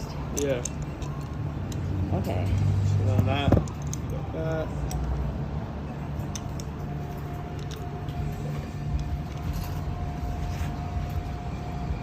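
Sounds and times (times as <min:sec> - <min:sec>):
light metallic clicks and clinks: 0:00.0 - 0:11.9.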